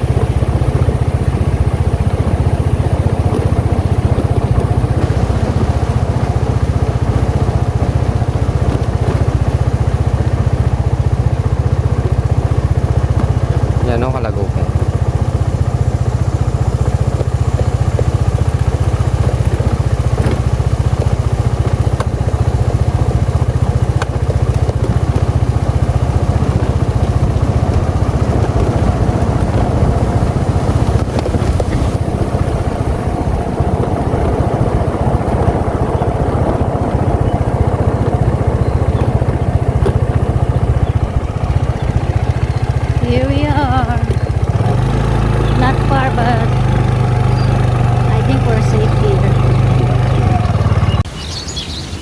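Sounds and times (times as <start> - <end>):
motorcycle engine rumbling: 0.0 - 52.0.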